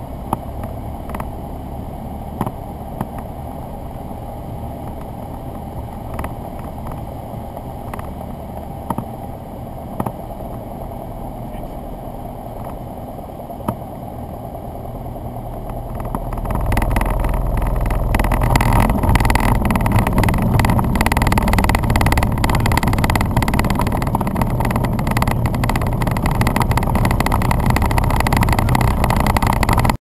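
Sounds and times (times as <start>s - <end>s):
plane engine and propeller running: 0.0s - 30.0s.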